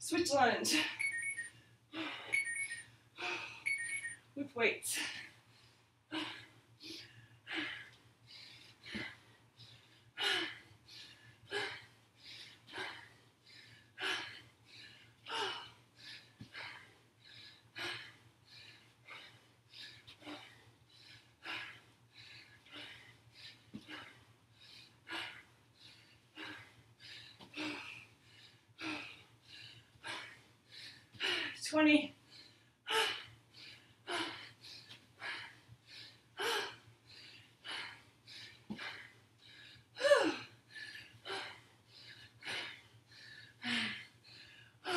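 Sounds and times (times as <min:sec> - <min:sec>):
woman breathing heavily: 0:00.2 - 0:44.9.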